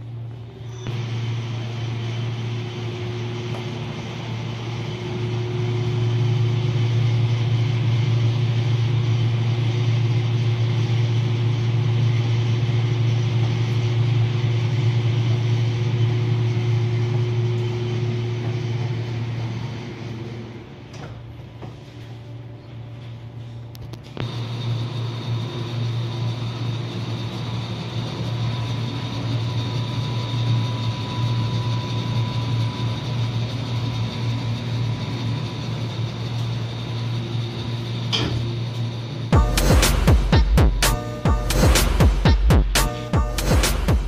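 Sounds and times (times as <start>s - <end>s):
fan unit humming: 0.0s - 44.0s.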